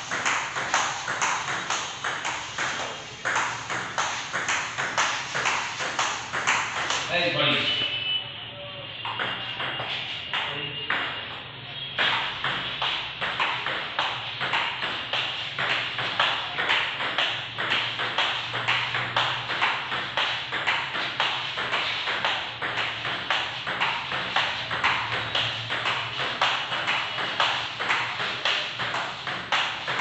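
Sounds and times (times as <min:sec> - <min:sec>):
ball bouncing on table: 0:00.0 - 0:07.3, 0:09.0 - 0:30.0
table tennis ball hitting bat: 0:00.0 - 0:07.4, 0:09.0 - 0:30.0.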